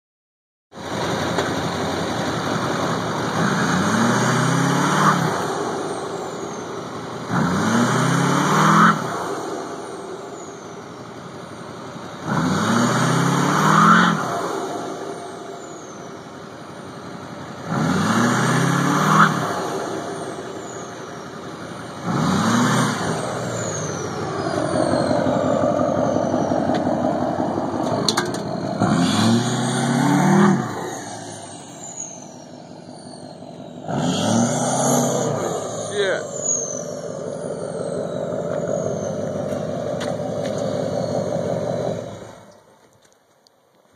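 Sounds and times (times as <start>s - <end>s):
diesel engine idling: 0.8s - 4.6s, 5.4s - 7.7s, 9.2s - 12.4s, 14.3s - 18.6s, 19.4s - 43.0s
diesel engine revving: 0.8s - 43.0s.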